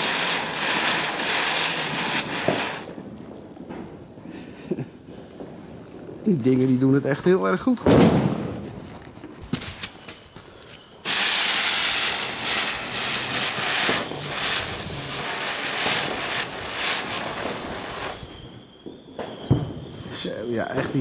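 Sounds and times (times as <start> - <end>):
ground-spinner firework hissing: 0.0 - 6.8, 9.5 - 21.0.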